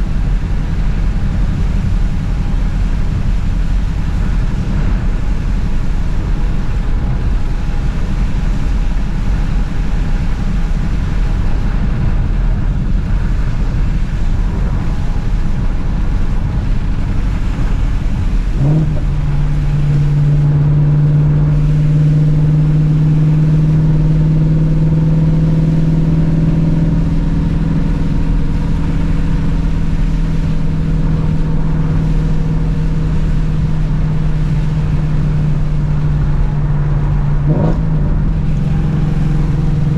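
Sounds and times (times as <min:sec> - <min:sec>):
car engine driving: 0:00.0 - 0:39.9
road noise: 0:00.0 - 0:39.9.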